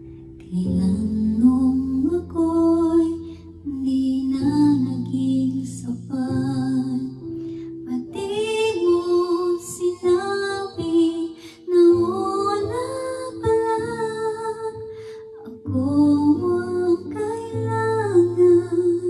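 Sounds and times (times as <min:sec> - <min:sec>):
woman singing into microphone: 0:00.4 - 0:19.0.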